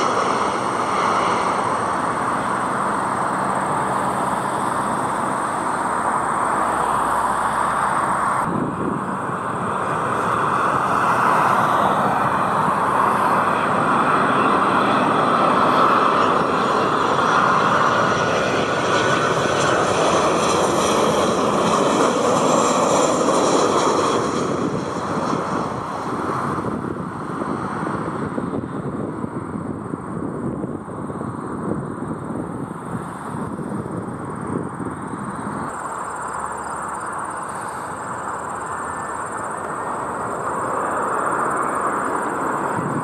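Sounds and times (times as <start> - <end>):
high fan whine: 0.0 - 43.0
jet airliner passing: 0.0 - 43.0.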